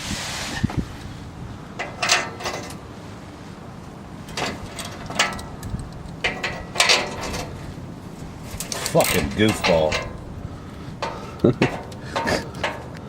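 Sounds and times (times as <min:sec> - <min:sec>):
metal tools clanking: 0:01.6 - 0:12.8.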